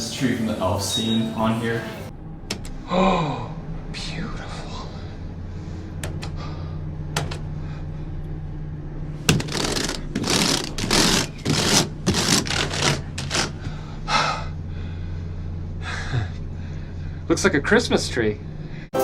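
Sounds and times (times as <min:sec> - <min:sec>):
elevator hum: 0:00.0 - 0:19.0.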